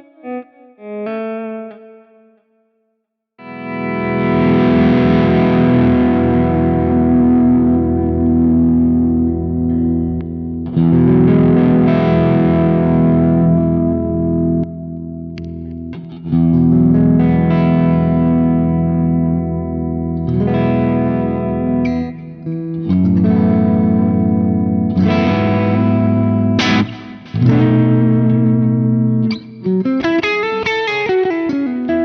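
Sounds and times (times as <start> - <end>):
distorted electric guitar chords: 3.4 - 32.0.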